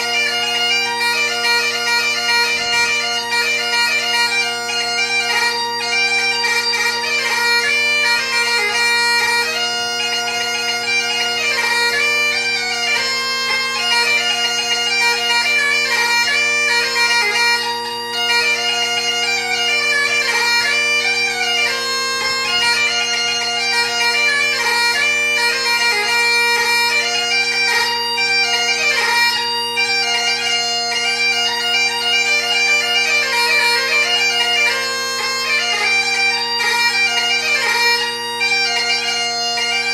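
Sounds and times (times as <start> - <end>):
bagpipe playing a fast tune: 0.0 - 39.9.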